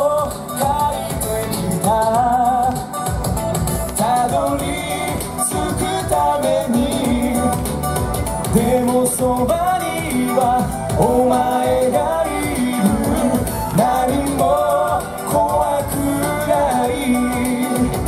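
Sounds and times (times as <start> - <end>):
band accompaniment: 0.0 - 18.0
man singing pop song: 0.0 - 18.0.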